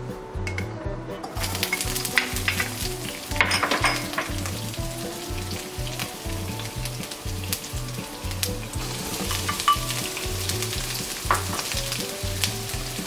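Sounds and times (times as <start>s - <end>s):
garlic sizzling in hot oil: 1.4s - 13.0s
oil crackling: 1.4s - 13.0s.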